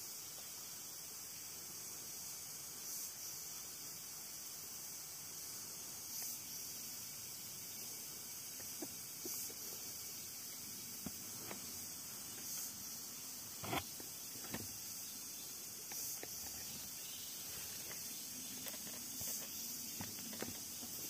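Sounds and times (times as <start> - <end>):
high insect buzz: 0.0 - 21.0.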